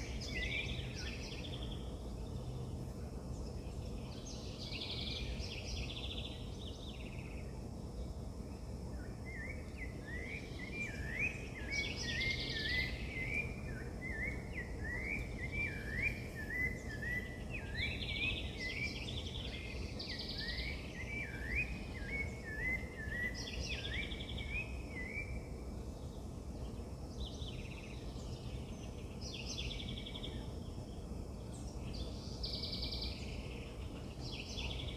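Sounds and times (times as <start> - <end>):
bird singing fast up-and-down notes: 0.0 - 34.9
low outdoor rumble: 0.0 - 34.9.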